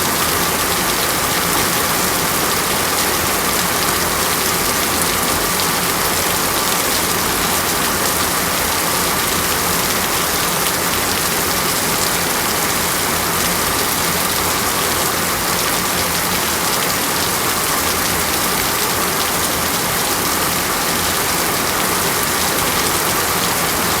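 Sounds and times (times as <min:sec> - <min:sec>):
water running in a steady hiss: 0:00.0 - 0:24.0.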